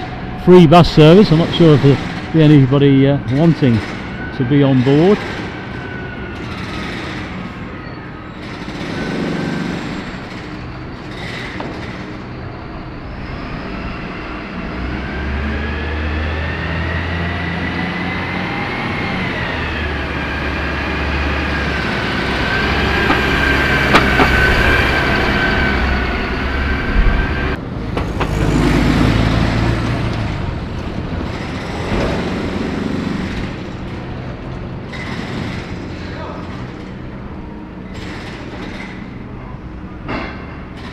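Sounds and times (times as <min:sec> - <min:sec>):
bus engine rumble and whine: 0:00.0 - 0:40.9.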